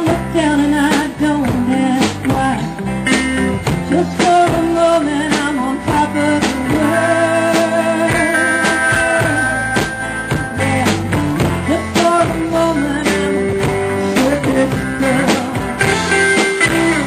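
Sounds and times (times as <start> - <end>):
drums and cymbal hits: 0.0 - 17.0
electric guitar lines: 0.4 - 17.0.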